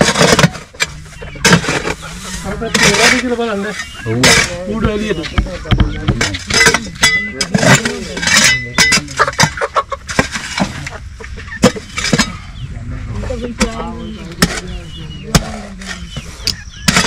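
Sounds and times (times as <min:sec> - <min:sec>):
hoe striking and scraping earth: 0:00.0 - 0:12.6, 0:13.2 - 0:17.0.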